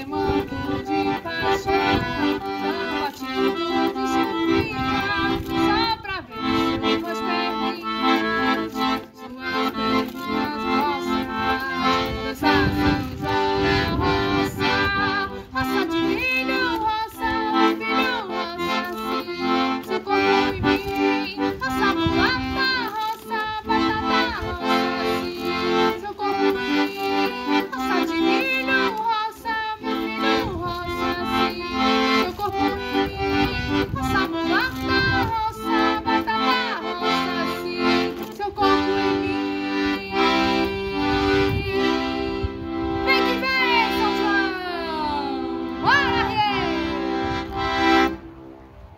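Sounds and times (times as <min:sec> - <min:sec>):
accordion-led folk music: 0:00.0 - 0:48.9.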